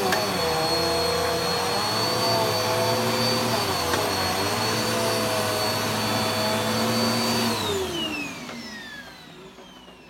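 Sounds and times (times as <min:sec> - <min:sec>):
vacuum cleaner motor whine: 0:00.0 - 0:10.0.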